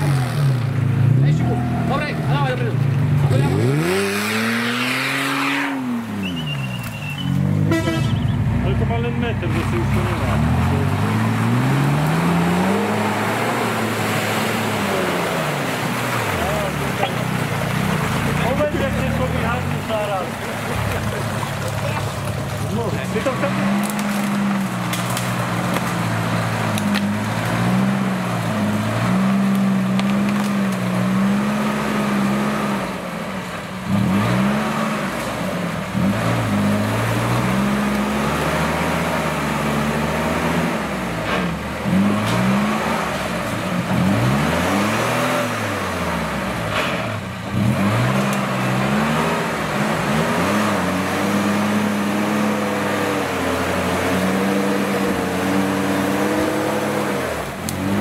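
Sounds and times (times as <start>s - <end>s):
engine idling and revving: 0.0s - 58.0s.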